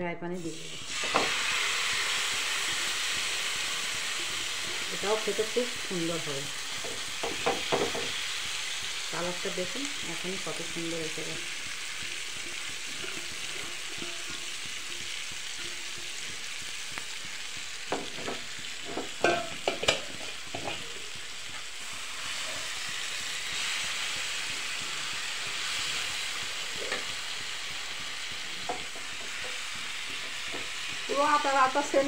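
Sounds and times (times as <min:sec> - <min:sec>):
chicken sizzling in frying pan: 0:00.4 - 0:32.0
utensil striking pan: 0:00.8 - 0:21.7, 0:22.3 - 0:32.0.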